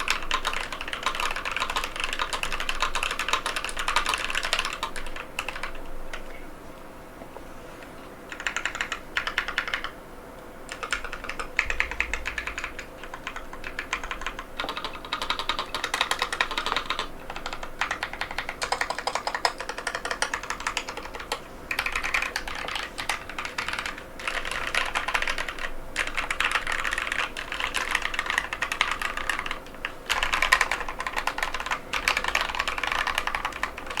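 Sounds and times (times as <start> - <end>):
fast mechanical keyboard typing: 0.0 - 6.3, 8.3 - 10.0, 10.7 - 34.0.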